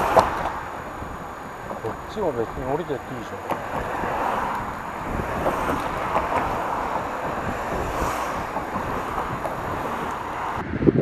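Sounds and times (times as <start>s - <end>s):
cars passing: 0.0s - 11.0s
wind on microphone: 0.0s - 11.0s.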